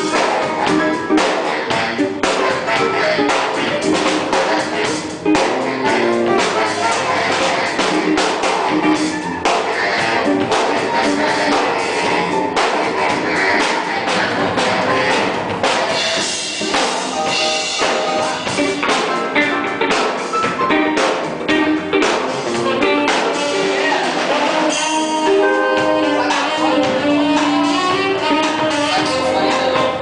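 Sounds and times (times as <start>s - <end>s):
drum kit strikes: 0.0s - 30.0s
orchestra playing: 0.0s - 30.0s.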